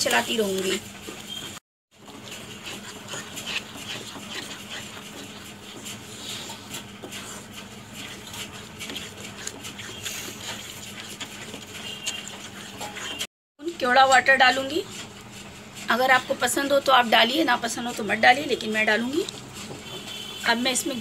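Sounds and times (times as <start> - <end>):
wooden spatula scraping a pan: 0.0 - 21.0.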